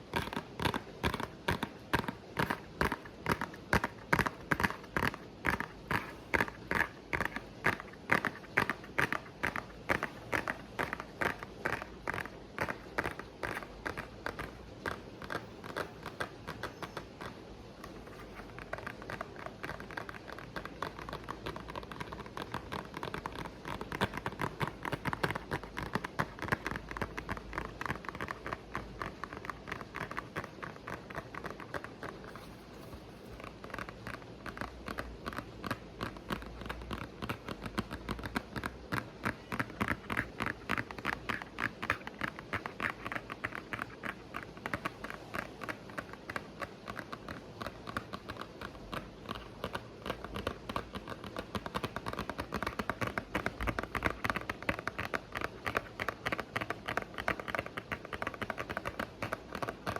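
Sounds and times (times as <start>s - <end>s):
rapid tapping: 0.0s - 59.9s.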